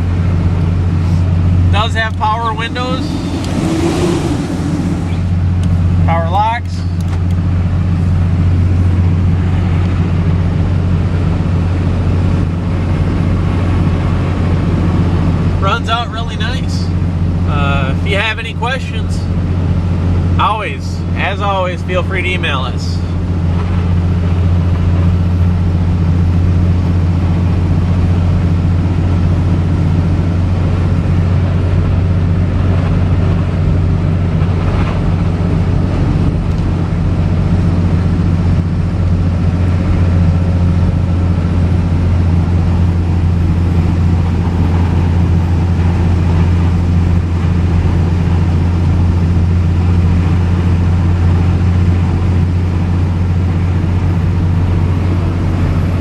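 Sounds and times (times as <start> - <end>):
diesel engine drone: 0.0 - 56.0
road and tyre noise: 0.0 - 56.0.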